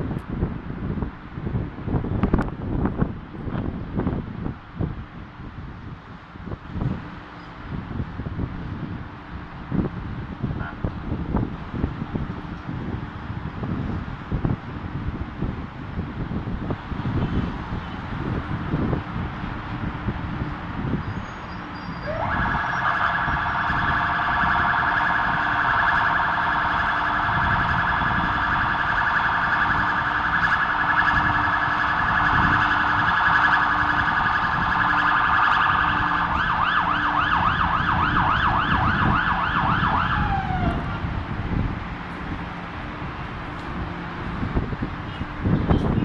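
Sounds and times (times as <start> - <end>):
traffic noise: 0.0 - 46.0
emergency vehicle siren: 8.6 - 46.0.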